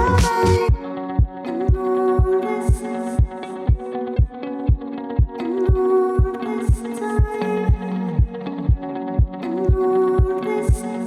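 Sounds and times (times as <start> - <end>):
background music with low beat: 0.0 - 10.9.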